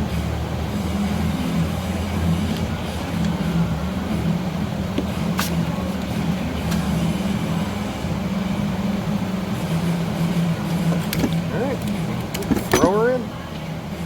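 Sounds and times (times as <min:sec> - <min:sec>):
machine hum with low drone: 0:00.0 - 0:14.0.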